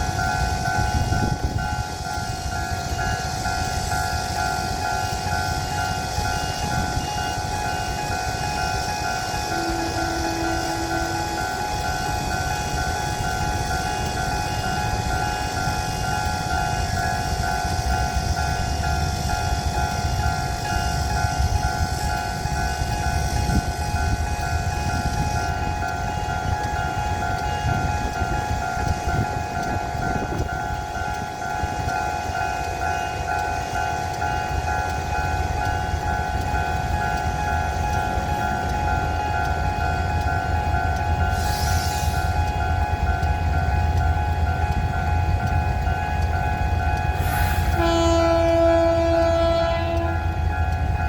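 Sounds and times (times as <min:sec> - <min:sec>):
level crossing warning alarm: 0:00.0 - 0:51.0
train rumble: 0:00.0 - 0:51.0.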